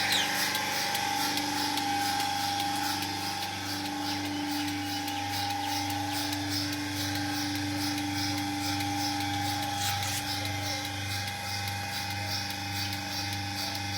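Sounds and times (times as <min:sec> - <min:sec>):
machine humming: 0:00.0 - 0:13.9.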